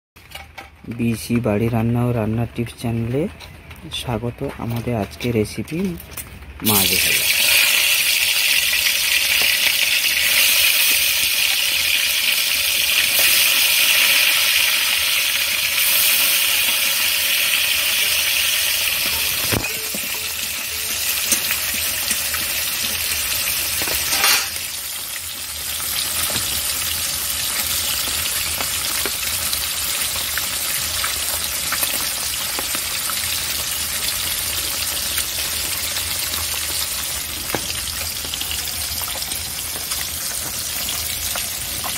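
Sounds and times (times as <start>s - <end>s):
fish sizzling in hot oil: 6.6s - 41.9s.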